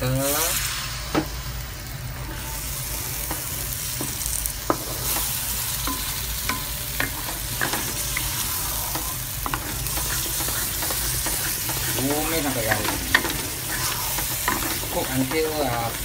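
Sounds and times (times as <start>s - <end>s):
spice paste sizzling in a pan: 0.0s - 16.0s
wooden spatula scraping a pan: 2.2s - 16.0s.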